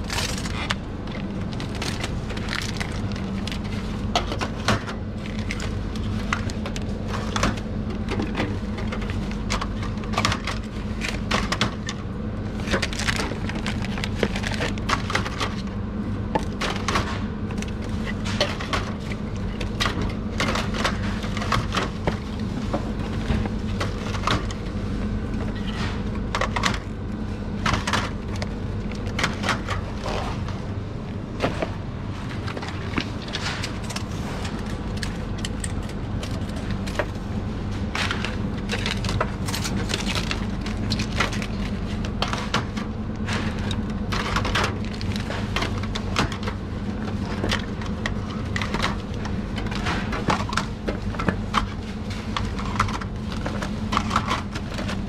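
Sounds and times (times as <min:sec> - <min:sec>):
fridge hum: 0:00.0 - 0:55.0.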